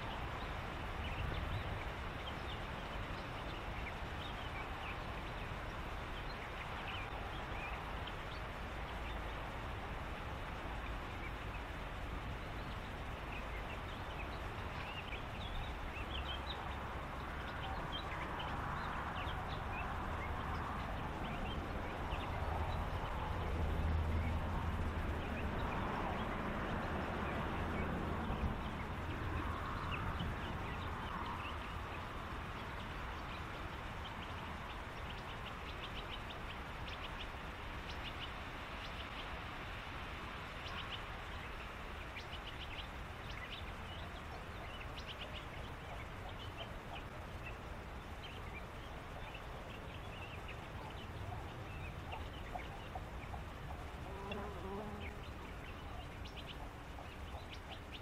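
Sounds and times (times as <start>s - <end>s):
background hiss: 0.0s - 58.0s
birds chirping: 0.0s - 58.0s.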